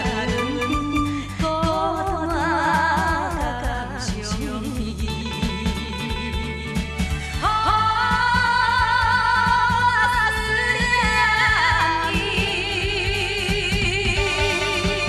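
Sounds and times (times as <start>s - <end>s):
pop song singing: 0.0s - 15.0s
steady musical accompaniment: 0.0s - 15.0s.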